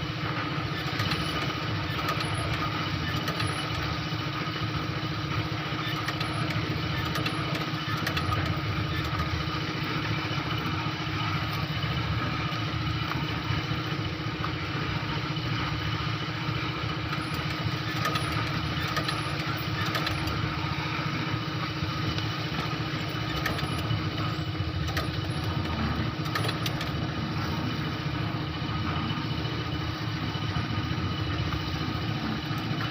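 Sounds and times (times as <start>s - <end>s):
small motor running: 0.0s - 32.9s.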